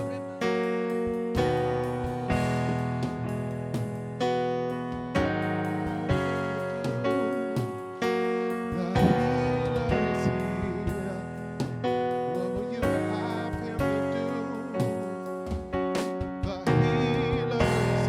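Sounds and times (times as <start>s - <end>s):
keyboard playing slow chords: 0.0s - 18.0s.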